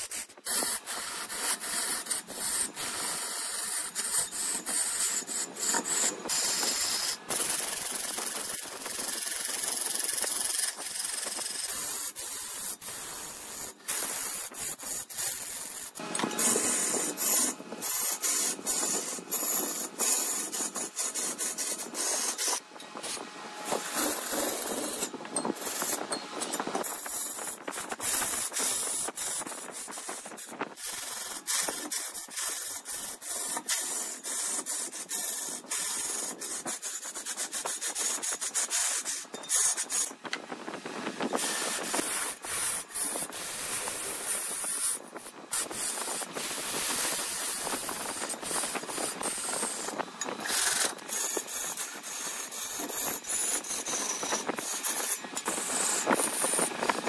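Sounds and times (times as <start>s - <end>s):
wood scraping on lathe: 0.0s - 57.0s.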